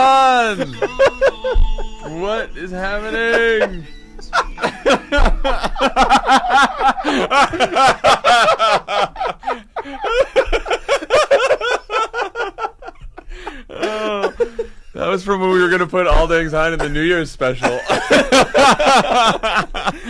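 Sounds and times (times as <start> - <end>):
people laughing: 0.0 - 20.0.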